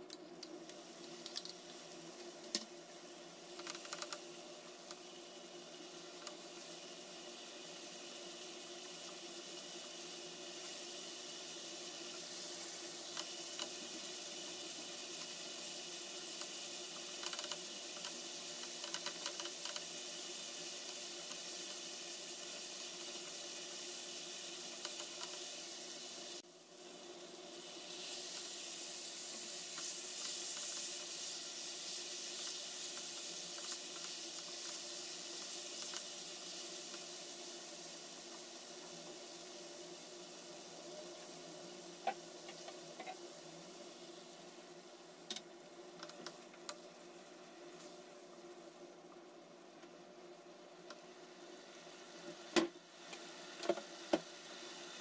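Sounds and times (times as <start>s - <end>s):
chicken sizzling in a pan: 0.0s - 55.0s
onion frying in a pan: 0.0s - 55.0s.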